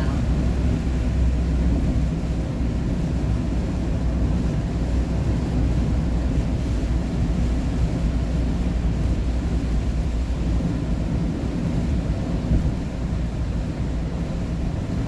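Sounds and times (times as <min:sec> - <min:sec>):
engine and road noise in car cabin: 0:00.0 - 0:15.0.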